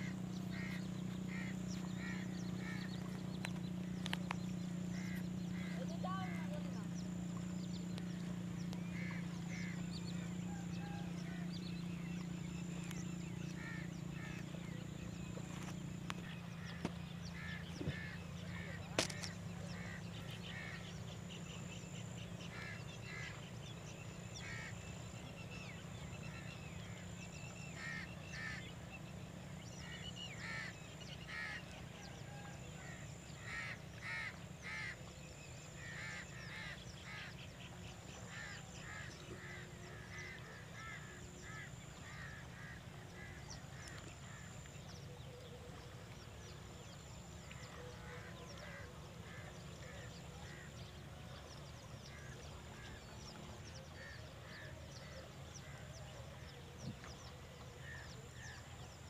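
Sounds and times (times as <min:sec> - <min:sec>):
waterfowl calling: 0:00.0 - 0:58.6.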